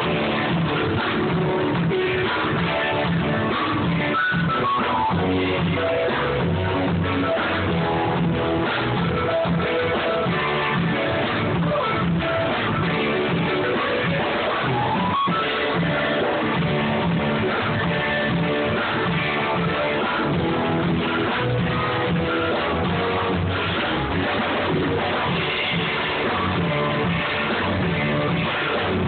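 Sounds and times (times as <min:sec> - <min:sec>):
guitar-led rock music: 0:00.0 - 0:29.0.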